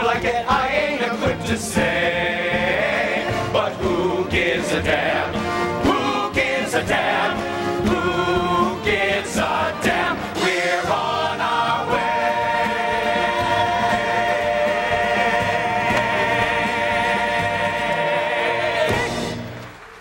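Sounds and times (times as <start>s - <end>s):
chorus singing show tune: 0.0s - 19.6s.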